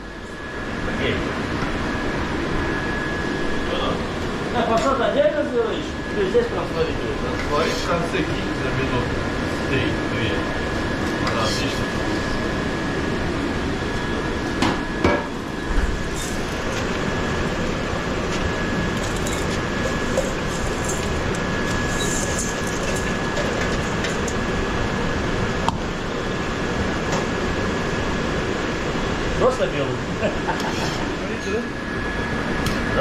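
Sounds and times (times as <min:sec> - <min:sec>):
restaurant kitchen rushing noise: 0:00.0 - 0:33.0.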